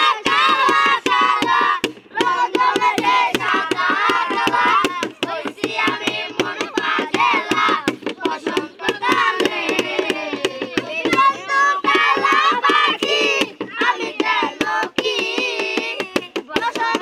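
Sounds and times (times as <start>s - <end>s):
boys singing: 0.0s - 17.0s
sticks beating a container drum: 0.0s - 17.0s.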